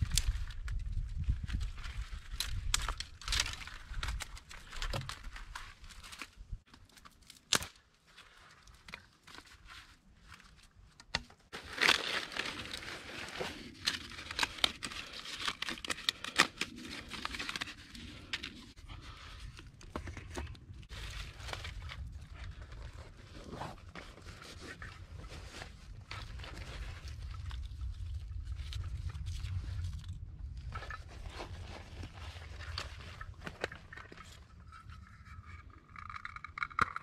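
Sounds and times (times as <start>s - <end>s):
dry grass and bark crinkling: 0.0s - 36.9s.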